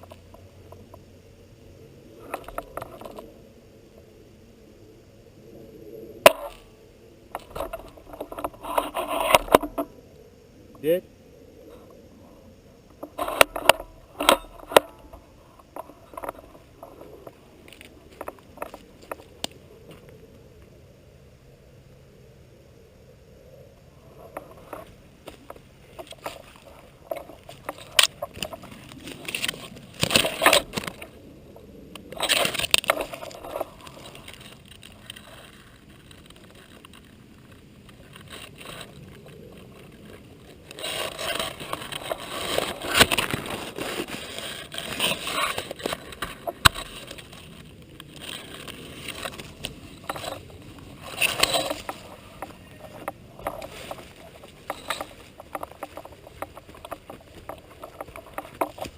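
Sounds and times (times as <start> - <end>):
rustling and scraping movement: 5.4 - 10.1, 11.6 - 20.3, 23.9 - 58.9.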